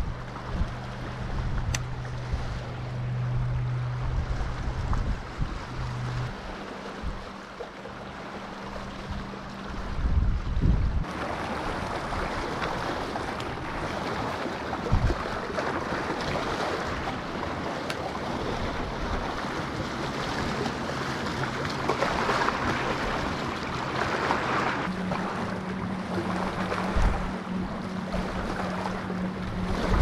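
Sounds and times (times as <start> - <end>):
wind buffeting microphone: 0.0 - 7.4, 8.6 - 17.6, 18.3 - 30.0
small waves washing on shore: 0.0 - 30.0
wind over water: 0.0 - 30.0.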